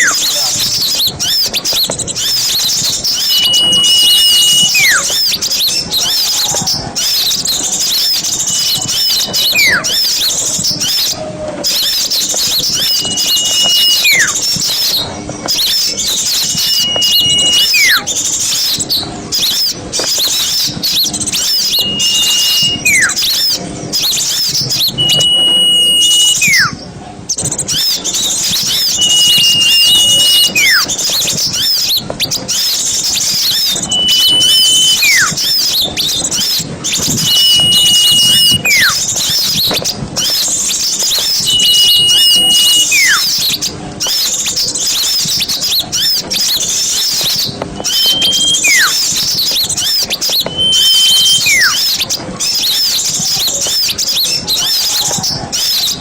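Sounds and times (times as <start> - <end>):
bird whistle dropping in pitch: 0.0 - 26.8, 27.7 - 44.3, 44.9 - 55.9
songbirds chirping and twittering: 0.0 - 56.0.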